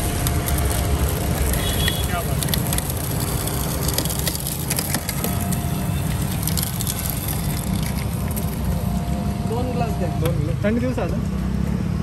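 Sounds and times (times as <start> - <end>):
juicer motor humming: 0.0 - 10.7
sugarcane crackling and splintering: 0.0 - 11.3.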